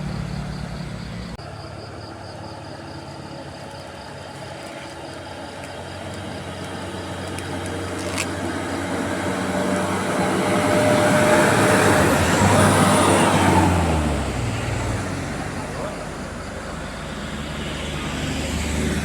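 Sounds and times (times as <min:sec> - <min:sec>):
diesel bus engine under load: 0:00.0 - 0:19.0
tyre and road noise: 0:00.0 - 0:19.0.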